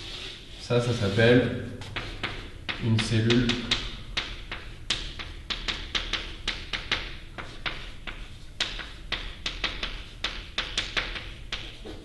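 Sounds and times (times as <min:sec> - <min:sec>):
chalk tapping on blackboard: 0:01.8 - 0:12.0.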